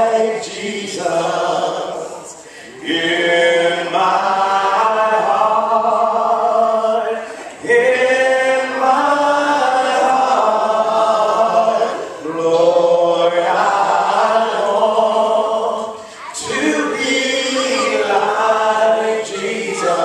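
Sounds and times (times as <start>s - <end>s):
congregation singing a cappella: 0.0s - 20.0s.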